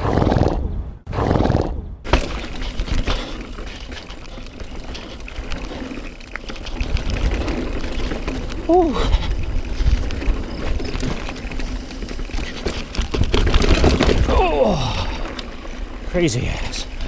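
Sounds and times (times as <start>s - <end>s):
bike rattling over bumps: 2.0s - 17.0s
tyres rolling over dirt: 2.0s - 17.0s.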